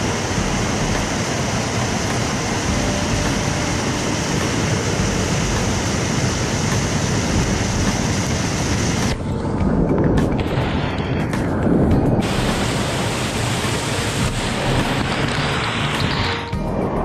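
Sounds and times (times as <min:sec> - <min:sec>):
waterfall rushing: 0:00.0 - 0:11.4, 0:12.2 - 0:16.5.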